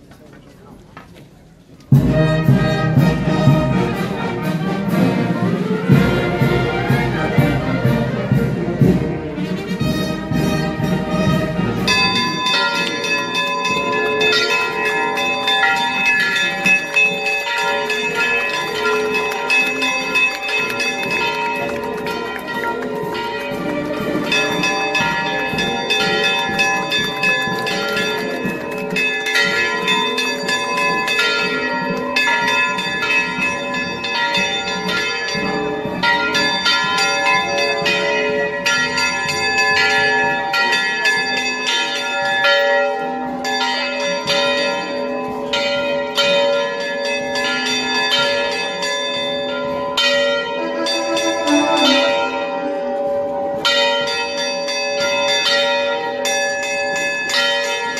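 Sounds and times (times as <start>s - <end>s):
church bells ringing a peal: 1.9s - 57.9s.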